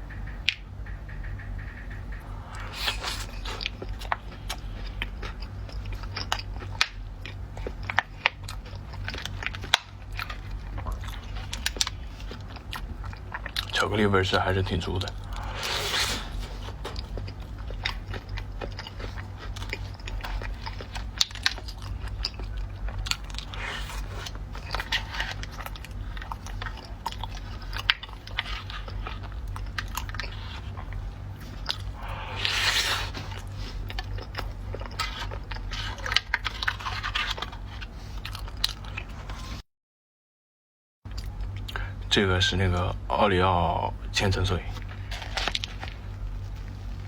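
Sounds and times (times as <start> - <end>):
low hum: 0.0 - 39.6
wet chewing and biting: 0.4 - 39.6, 44.7 - 47.0.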